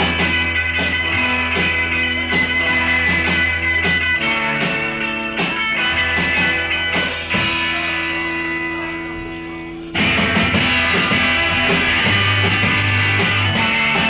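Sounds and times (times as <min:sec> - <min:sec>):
bass line: 0:00.0 - 0:14.0
drum kit steady beat: 0:00.0 - 0:14.0
electric guitars ringing: 0:00.0 - 0:14.0.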